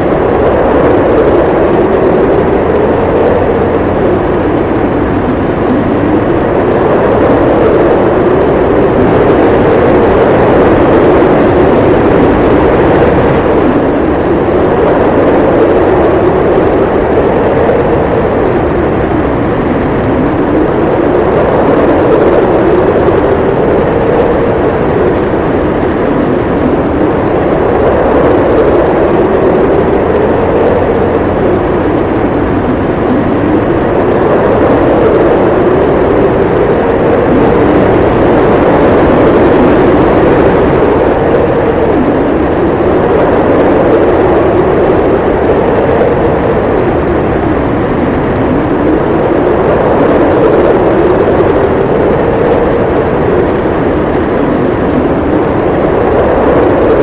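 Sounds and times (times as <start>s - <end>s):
howling storm wind: 0.0s - 57.0s.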